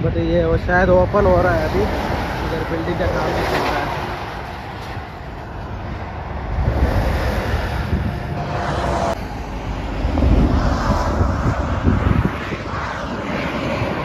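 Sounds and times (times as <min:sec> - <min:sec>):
lorries rumbling on highway: 0:00.0 - 0:14.0
wind buffeting microphone: 0:00.0 - 0:14.0.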